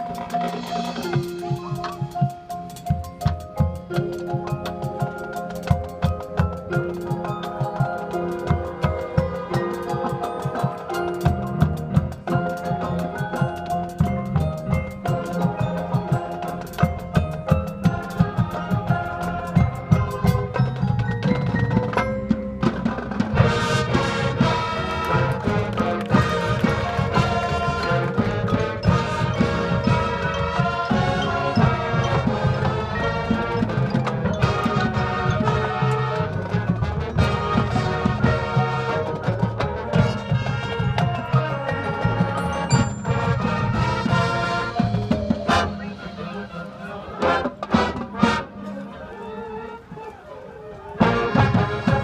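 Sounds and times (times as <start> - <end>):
mallet percussion: 0.0 - 49.4
bells: 0.0 - 52.0
drums: 0.0 - 52.0
marching band playing: 0.0 - 52.0.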